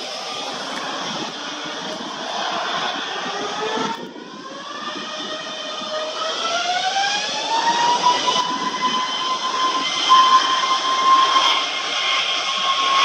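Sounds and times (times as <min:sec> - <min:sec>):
jet engines spooling up: 0:00.0 - 0:13.0.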